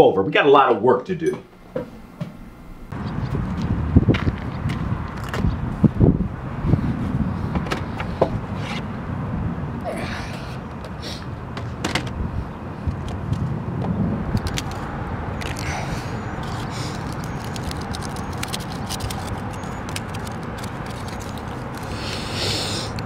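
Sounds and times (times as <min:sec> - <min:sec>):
low outdoor rumble: 0:01.4 - 0:23.0.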